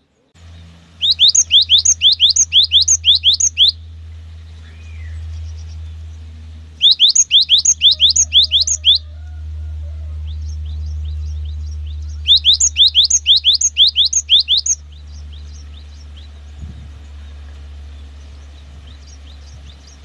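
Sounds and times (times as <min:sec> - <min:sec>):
low hum: 0:00.4 - 0:20.0
bird whistled song: 0:01.0 - 0:03.9, 0:04.6 - 0:06.0, 0:06.8 - 0:09.1, 0:10.3 - 0:20.0.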